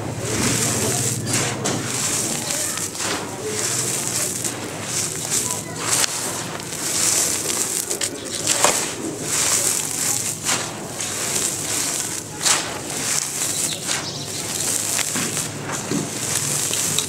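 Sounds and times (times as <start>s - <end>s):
dirt pouring onto a pile: 0.0s - 17.0s
pebbles ticking: 0.0s - 17.0s.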